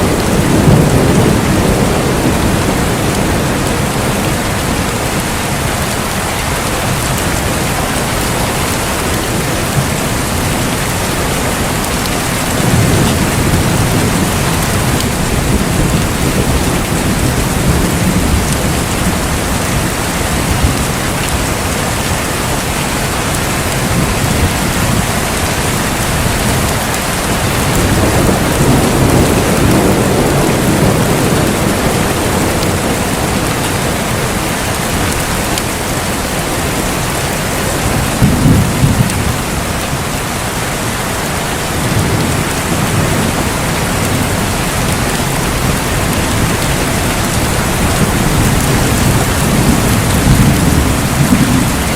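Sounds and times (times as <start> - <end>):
rolling thunder: 0.0 - 40.4, 41.7 - 51.9
heavy rain: 0.0 - 51.9.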